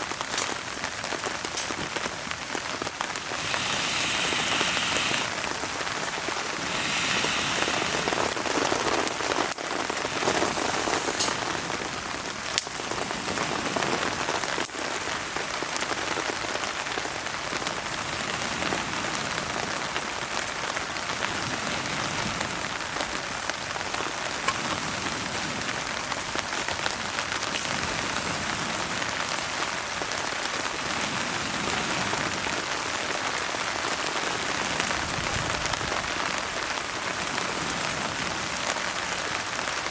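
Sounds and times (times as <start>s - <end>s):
steady rain falling: 0.0s - 39.9s
wood fire popping: 0.0s - 39.9s.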